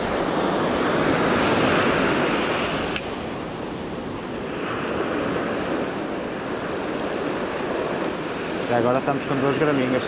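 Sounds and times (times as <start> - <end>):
surf washing up beach: 0.0 - 10.0.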